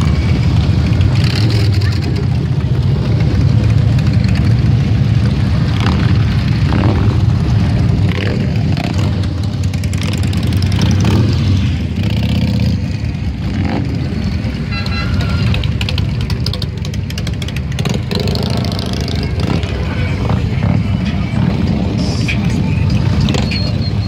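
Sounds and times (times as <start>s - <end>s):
motorcycles riding past: 0.0s - 22.0s.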